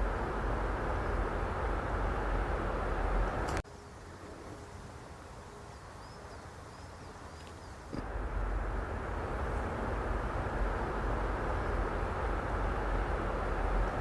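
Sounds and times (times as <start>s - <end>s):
steady outdoor rumbling: 0.0s - 14.0s.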